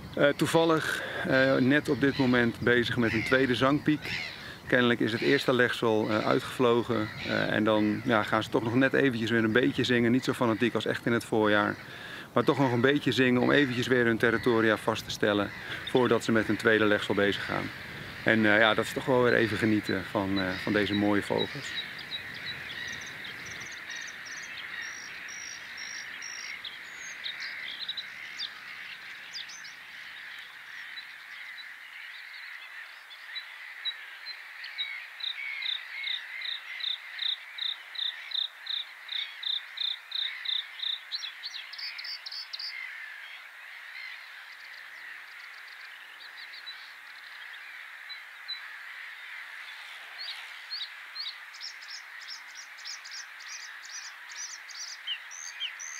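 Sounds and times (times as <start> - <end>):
bird singing: 0.0 - 55.9
other birds chirping: 0.0 - 55.9.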